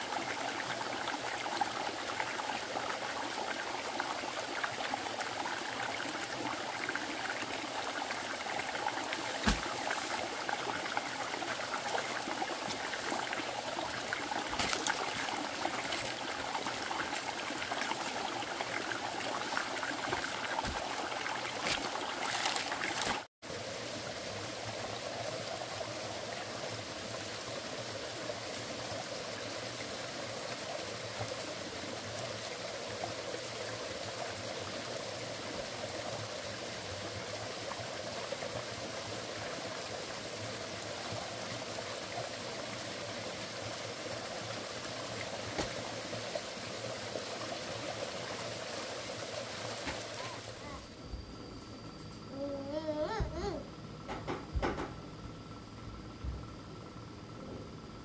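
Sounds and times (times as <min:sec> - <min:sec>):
running water: 0:00.0 - 0:51.0.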